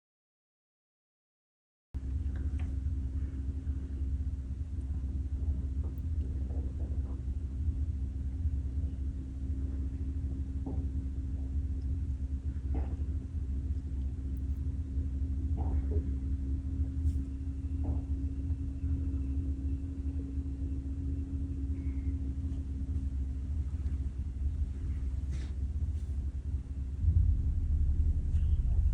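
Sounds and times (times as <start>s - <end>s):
low rumble with hum: 2.0s - 28.9s.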